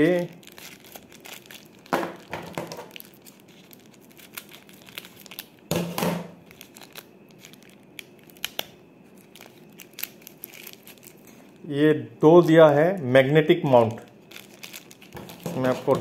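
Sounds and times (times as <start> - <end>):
wrapping paper crinkling: 0.0 - 5.7, 6.4 - 11.6, 13.6 - 16.0.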